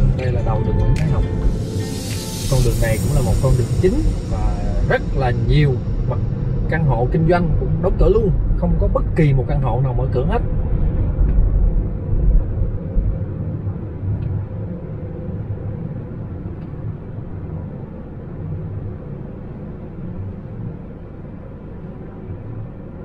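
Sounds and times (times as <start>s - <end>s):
road and engine rumble in car: 0.0s - 23.0s.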